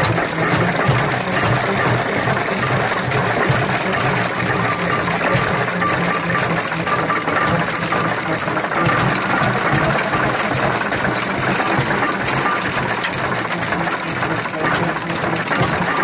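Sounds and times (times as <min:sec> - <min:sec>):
tractor engine mechanical clatter: 0:00.0 - 0:16.0.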